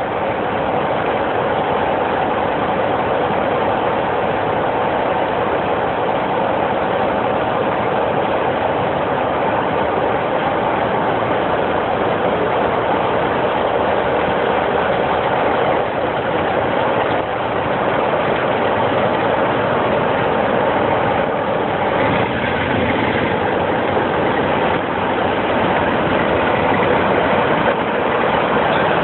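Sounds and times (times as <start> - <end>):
diesel locomotive engine idling: 0.0 - 29.0.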